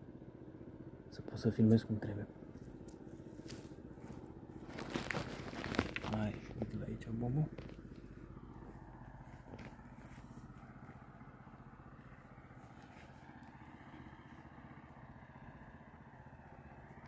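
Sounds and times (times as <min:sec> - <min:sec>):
faint motor hum: 0:00.0 - 0:17.0.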